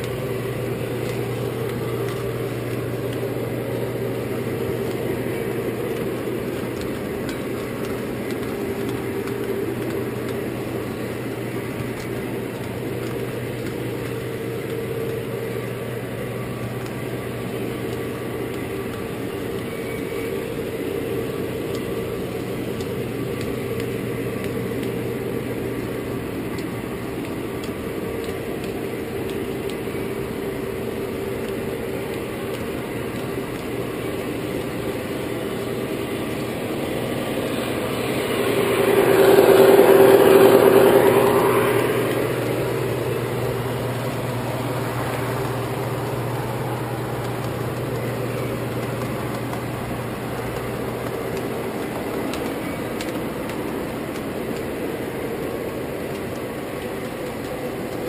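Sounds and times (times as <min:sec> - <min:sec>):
low hum: 0:00.0 - 0:58.0
model train rumble: 0:00.0 - 0:58.0.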